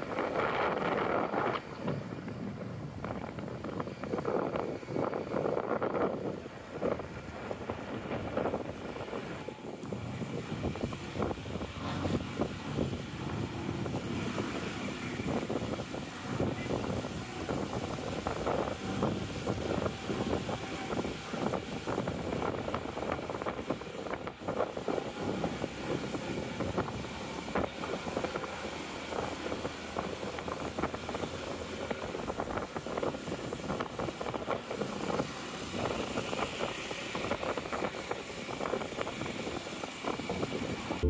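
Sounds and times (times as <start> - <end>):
car engine and tyres running: 0.0 - 41.0.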